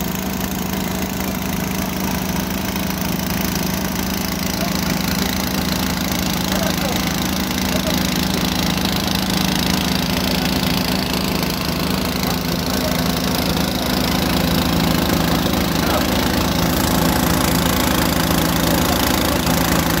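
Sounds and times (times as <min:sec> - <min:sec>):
small engine humming: 0:00.0 - 0:20.0.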